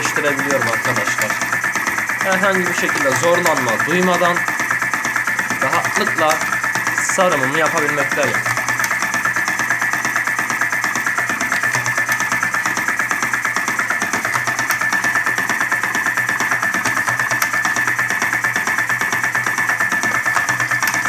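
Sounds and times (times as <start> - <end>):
feed mechanism rattling: 0.0 - 21.0
small motor whine: 0.0 - 21.0.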